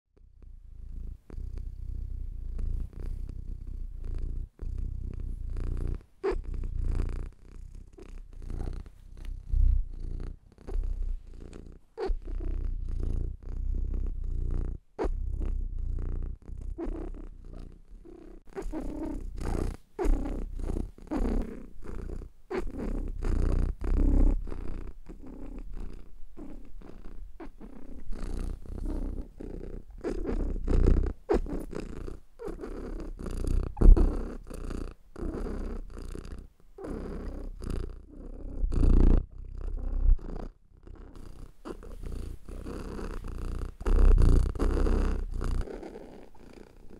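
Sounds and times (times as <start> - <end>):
cat purring: 0.2 - 46.9.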